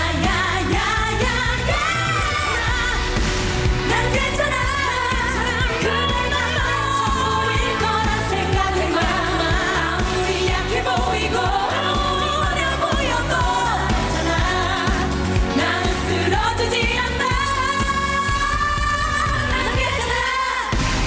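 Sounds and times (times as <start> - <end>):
dance-pop backing track: 0.0 - 21.0
women singing pop song: 0.0 - 21.0.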